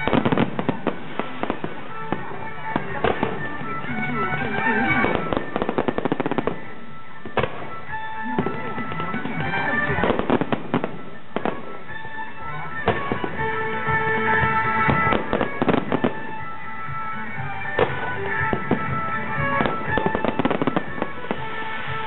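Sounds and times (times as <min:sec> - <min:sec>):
fireworks bangs: 0:00.0 - 0:22.0
show music: 0:00.0 - 0:22.0.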